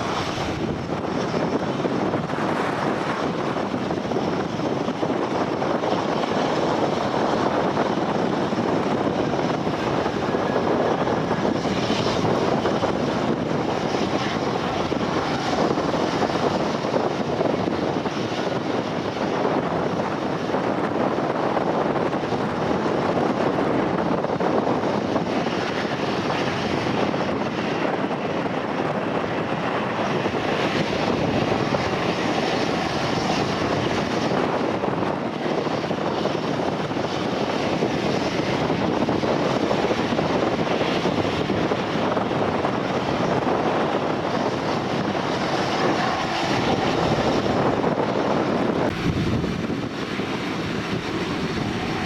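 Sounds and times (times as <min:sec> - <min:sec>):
aircraft engines roaring: 0:00.0 - 0:52.0.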